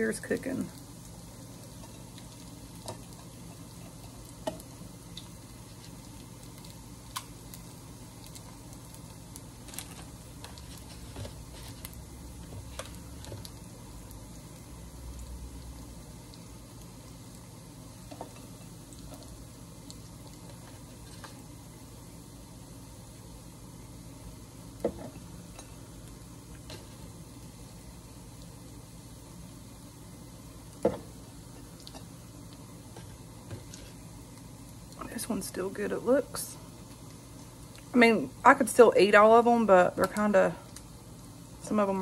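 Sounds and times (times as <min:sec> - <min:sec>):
meat sizzling in a pan: 0:00.0 - 0:42.0.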